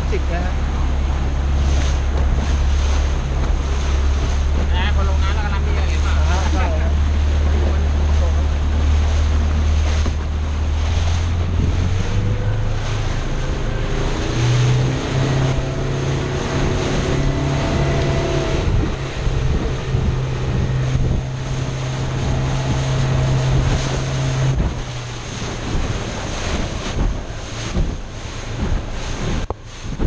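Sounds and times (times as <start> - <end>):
speedboat engine running: 0.0 - 30.0
water wash: 0.0 - 30.0
wind buffeting microphone: 0.0 - 30.0.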